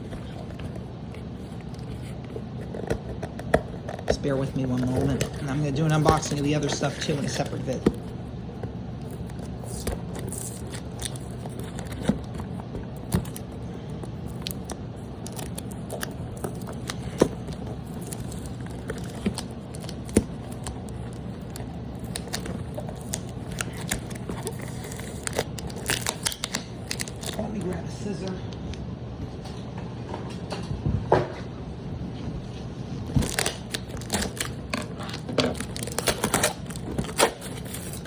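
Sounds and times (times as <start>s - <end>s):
packaging being handled: 0.0s - 27.4s, 33.1s - 38.0s
steady low hum: 0.0s - 38.0s.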